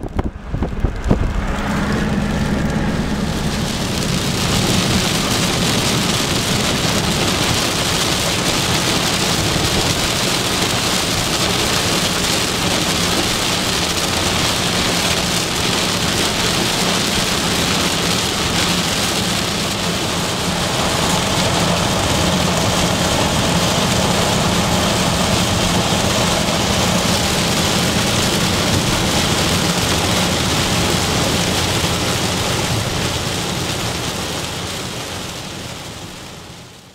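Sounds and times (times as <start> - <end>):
heavy rain on car roof: 0.0 - 36.9
low hum of engine and tyres: 0.0 - 36.9.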